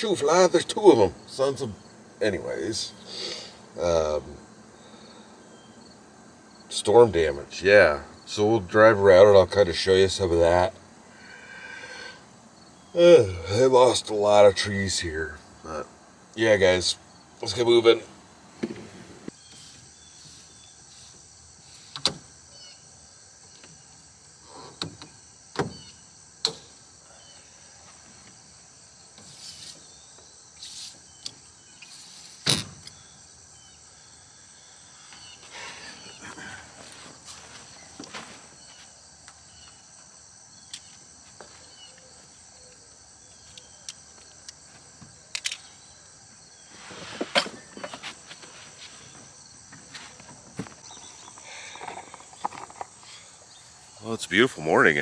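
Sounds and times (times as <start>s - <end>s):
high insect buzz: 0.2s - 55.0s.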